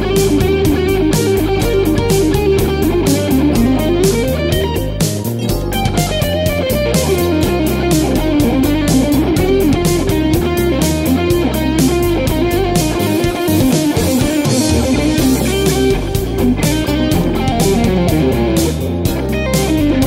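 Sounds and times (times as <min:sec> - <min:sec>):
backing track with beat and bass: 0:00.0 - 0:20.0
electric guitar lead with bends: 0:00.0 - 0:20.0.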